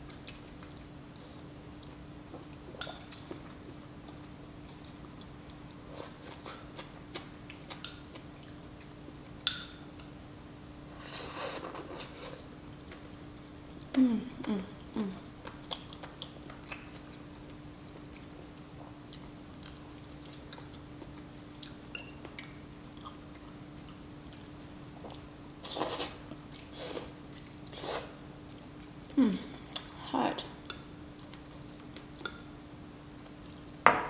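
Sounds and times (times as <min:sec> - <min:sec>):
soft chewing: 0:00.0 - 0:09.4, 0:10.9 - 0:32.6, 0:33.2 - 0:33.7
faint steady hum: 0:00.0 - 0:34.0.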